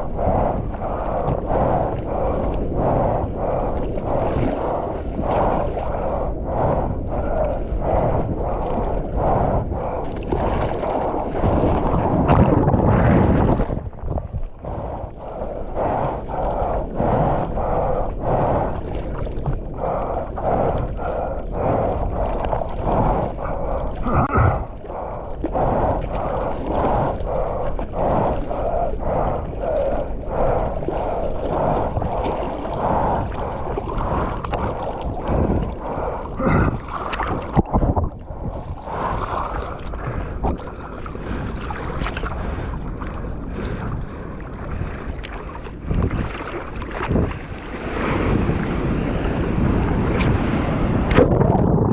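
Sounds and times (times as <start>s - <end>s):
water splashing in surf: 0.0s - 51.9s
wind noise on microphone: 0.0s - 51.9s.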